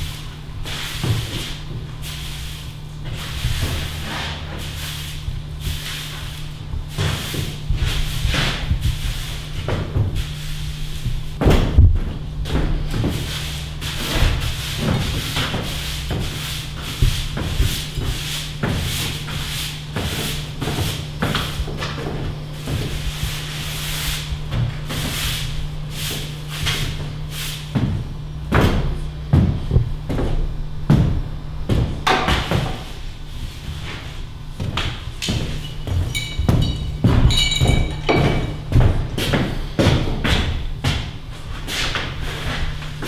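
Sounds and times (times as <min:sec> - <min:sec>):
broom sweeping floor: 0:00.0 - 0:43.0
steady low hum: 0:00.0 - 0:43.0.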